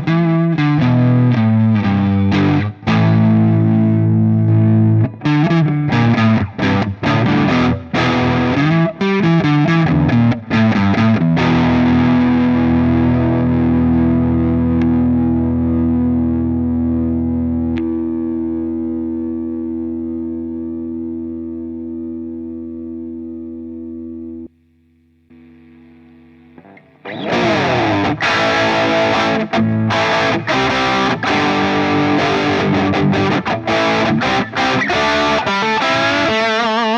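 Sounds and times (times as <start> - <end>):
overdriven electric guitar: 0.0 - 24.5, 25.3 - 36.9.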